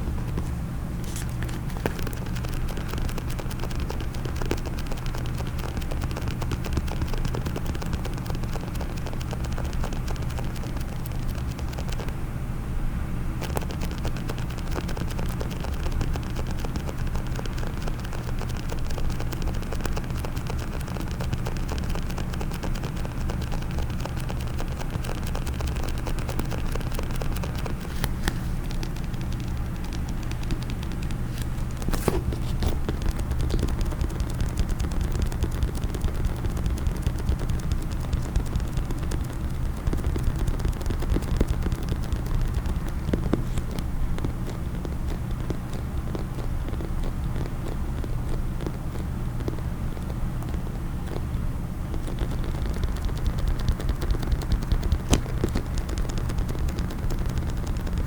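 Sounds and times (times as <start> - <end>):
tapping and scratching on a case: 1.1 - 12.2, 13.4 - 51.3, 51.9 - 58.0.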